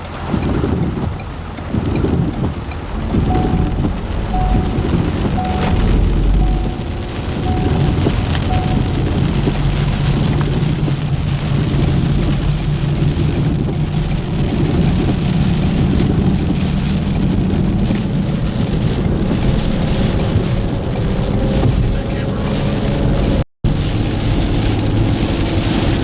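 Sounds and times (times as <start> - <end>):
engine and road noise: 0.0 - 26.0
heavy rain on a car: 0.0 - 26.0.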